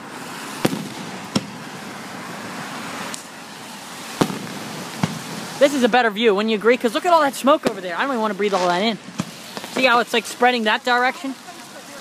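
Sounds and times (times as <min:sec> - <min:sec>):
steady outdoor hiss: 0:00.0 - 0:12.0
fireworks bangs: 0:00.3 - 0:06.0, 0:07.0 - 0:11.0.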